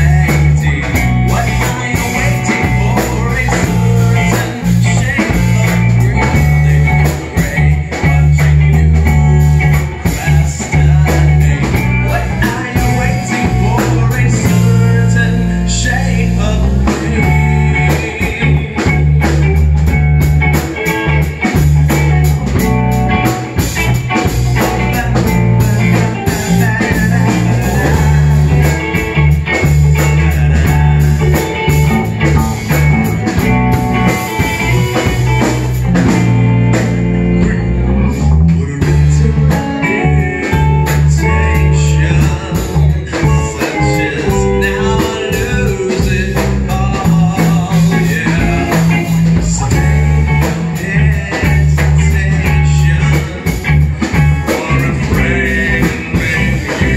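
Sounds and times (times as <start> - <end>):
man singing into a microphone: 0.0 - 19.7, 24.2 - 33.4, 34.0 - 56.9
drum kit: 0.0 - 56.9
electric bass: 0.0 - 56.9
electric guitar: 0.0 - 56.9.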